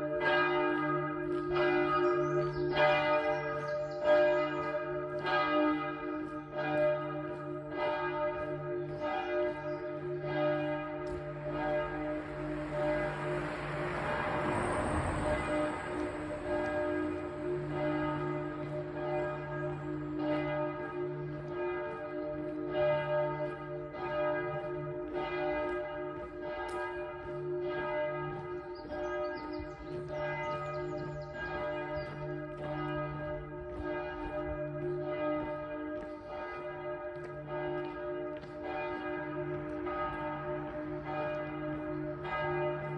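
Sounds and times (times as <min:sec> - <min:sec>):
church bells pealing: 0:00.0 - 0:42.9.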